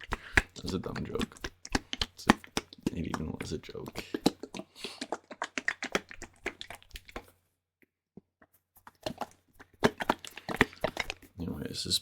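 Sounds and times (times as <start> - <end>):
sticky liquid clicks: 0.0 - 7.3, 8.4 - 11.4.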